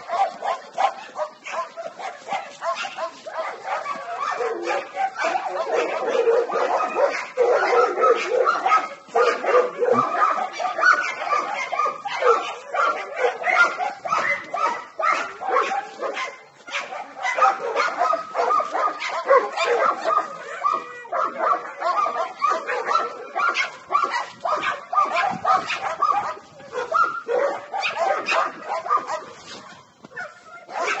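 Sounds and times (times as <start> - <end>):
dogs barking and yipping: 0.0 - 31.0.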